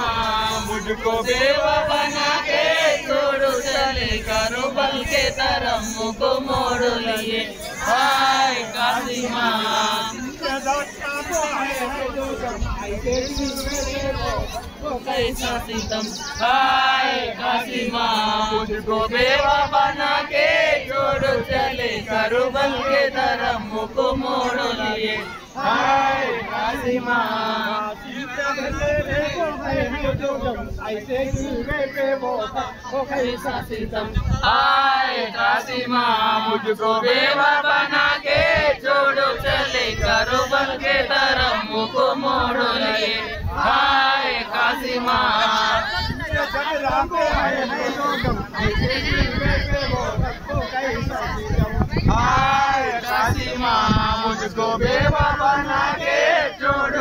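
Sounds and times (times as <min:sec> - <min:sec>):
men chanting: 0:00.0 - 0:57.0.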